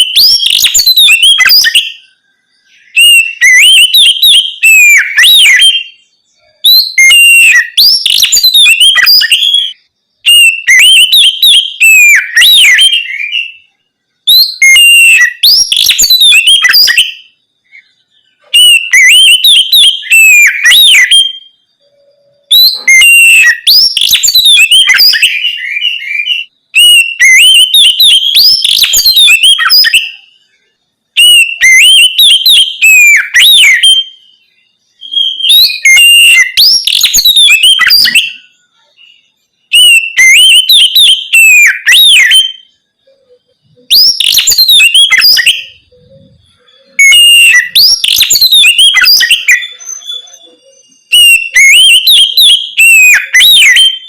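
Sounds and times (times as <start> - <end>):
bird singing whistled song: 0.0 - 54.0.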